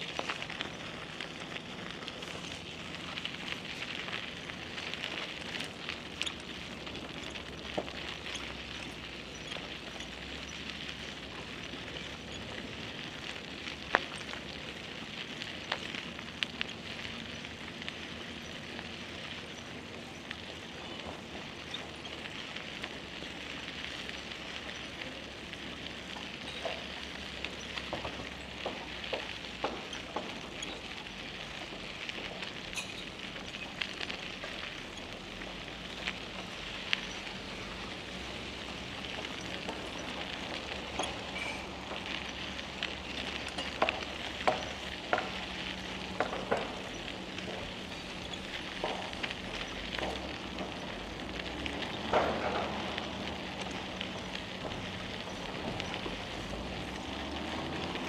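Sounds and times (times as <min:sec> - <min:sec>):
bicycle clicks and rattles: 0:00.0 - 0:58.0.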